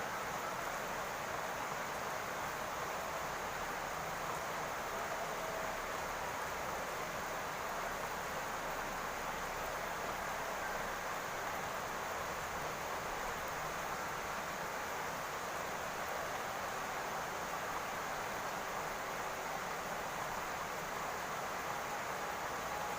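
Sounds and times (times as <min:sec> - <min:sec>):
rain falling on a roof: 0:00.0 - 0:22.9.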